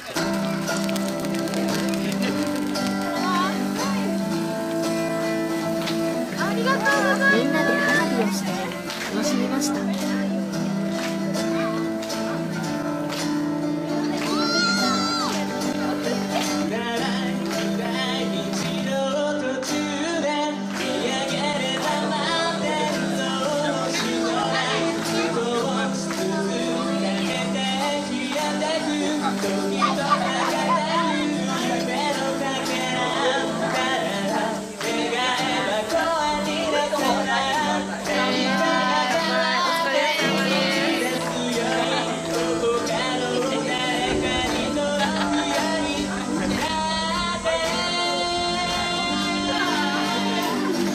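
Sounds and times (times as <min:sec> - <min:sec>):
song with vocals over a beat: 0:00.0 - 0:50.9.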